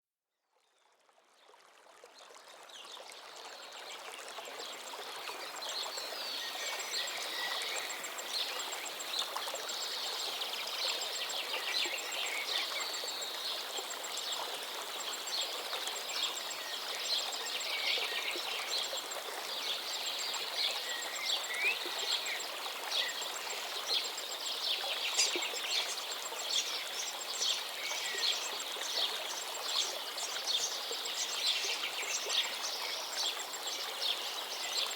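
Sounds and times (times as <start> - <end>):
river water flowing: 0.9 - 34.9.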